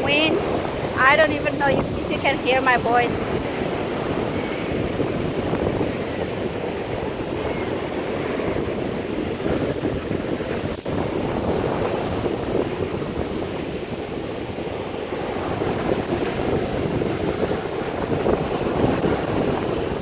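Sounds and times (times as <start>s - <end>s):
ocean surf breaking: 0.0s - 20.0s
strong wind buffeting microphone: 0.0s - 20.0s.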